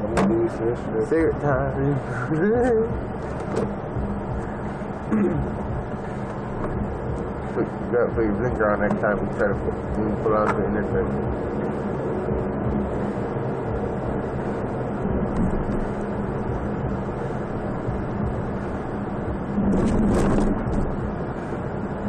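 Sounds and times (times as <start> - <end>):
car engine hum: 0.0 - 22.0
road noise rushing: 0.0 - 22.0.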